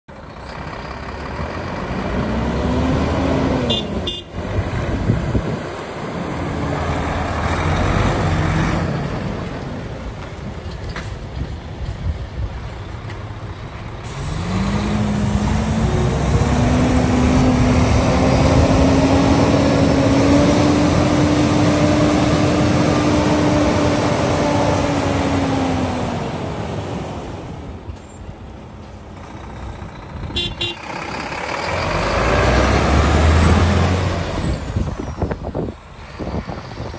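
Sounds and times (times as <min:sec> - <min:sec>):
truck diesel engine: 0:00.1 - 0:36.9.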